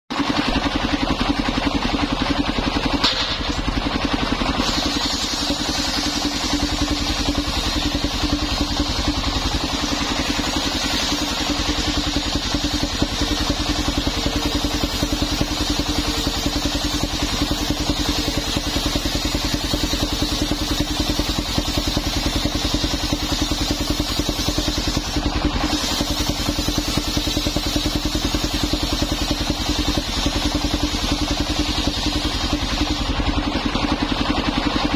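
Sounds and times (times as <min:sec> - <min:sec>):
stationary engine running: 0:00.1 - 0:34.9
circular saw cutting timber: 0:02.0 - 0:34.9.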